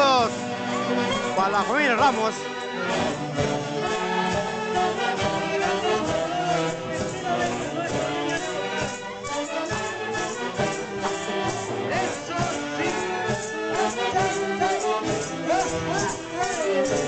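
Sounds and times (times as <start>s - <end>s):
live orchestra music: 0.0s - 17.0s.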